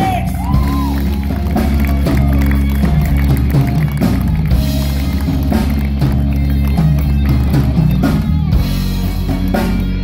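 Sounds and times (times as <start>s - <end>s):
bass guitar: 0.0s - 10.0s
drums: 0.0s - 10.0s
electric guitar: 0.0s - 10.0s.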